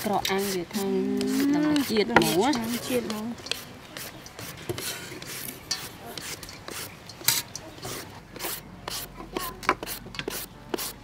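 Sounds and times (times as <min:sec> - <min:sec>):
vegetables scraping: 0:00.0 - 0:11.0.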